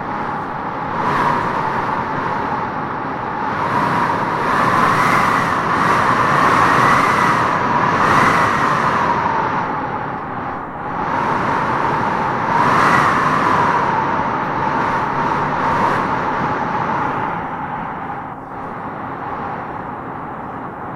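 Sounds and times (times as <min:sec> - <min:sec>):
wind howling through trees: 0:00.0 - 0:20.9.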